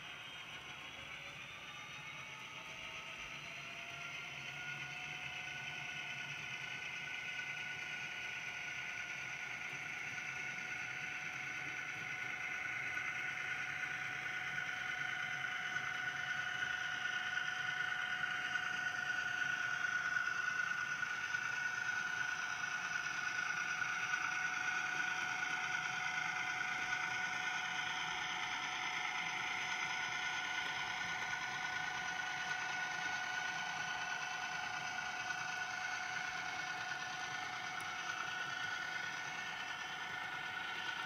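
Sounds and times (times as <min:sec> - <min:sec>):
model train running on track: 0:00.0 - 0:41.0.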